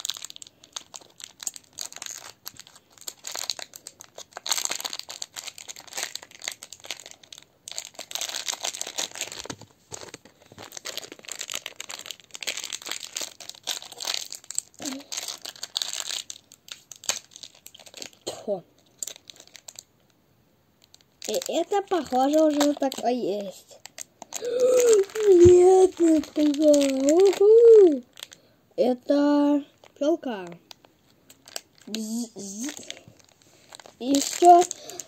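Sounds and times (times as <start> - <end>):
plastic wrapper crinkling and tearing: 0.0 - 20.2, 20.8 - 28.5, 29.6 - 35.0.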